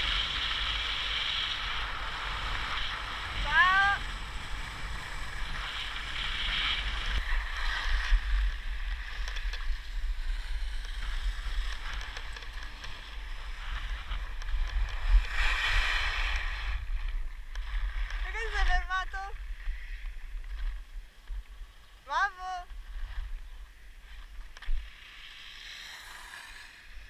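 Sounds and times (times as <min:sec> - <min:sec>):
skis scraping over snow: 0:00.0 - 0:22.0.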